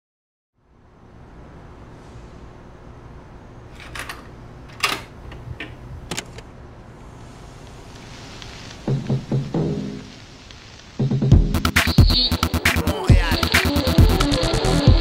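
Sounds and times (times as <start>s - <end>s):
low hum and hiss: 0.6s - 15.0s.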